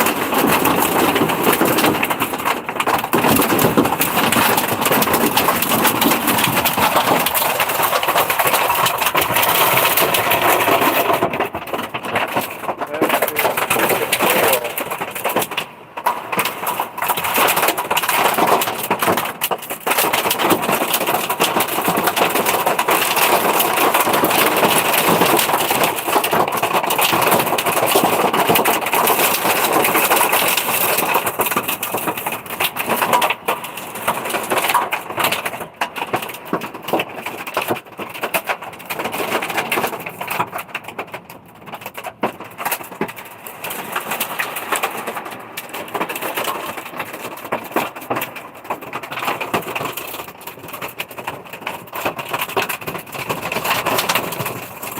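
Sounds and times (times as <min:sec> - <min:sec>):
hail and rain drumming on truck: 0:00.0 - 0:54.9.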